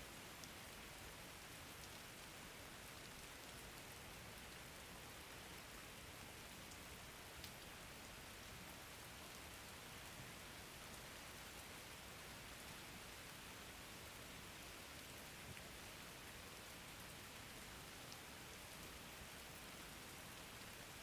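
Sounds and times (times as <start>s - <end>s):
faint rain hiss: 0.0s - 21.0s.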